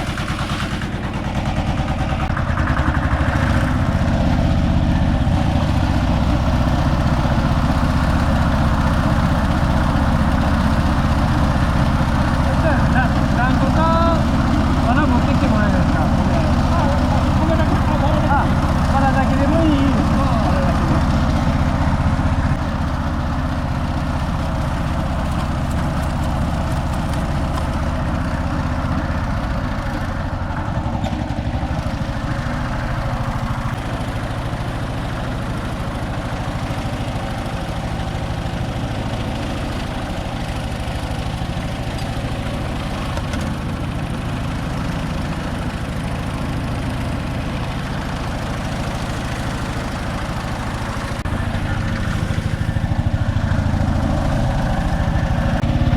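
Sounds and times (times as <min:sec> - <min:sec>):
harvester engine and threshing running: 0:00.0 - 0:55.9.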